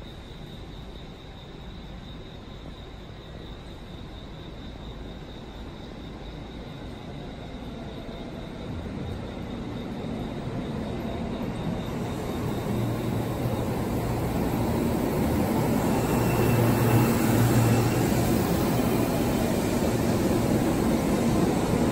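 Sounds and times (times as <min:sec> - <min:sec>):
electric train passing: 0:00.0 - 0:21.9.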